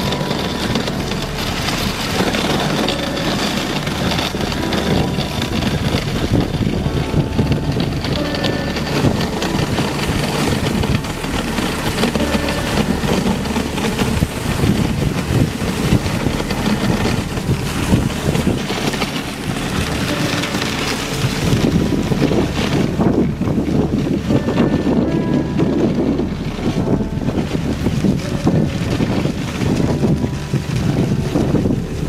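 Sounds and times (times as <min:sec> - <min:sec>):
sled runners scraping on snow: 0:00.0 - 0:32.0
wind buffeting microphone: 0:00.0 - 0:32.0.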